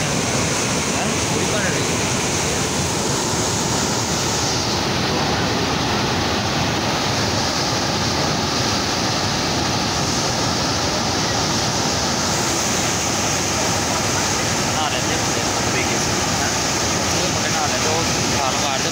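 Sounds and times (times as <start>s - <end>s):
white water rushing over weir: 0.0s - 18.9s.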